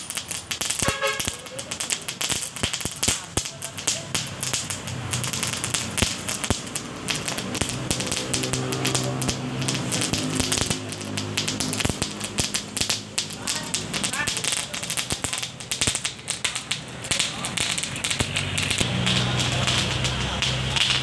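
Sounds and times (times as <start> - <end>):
firecracker fuse crackling: 0.0 - 21.0.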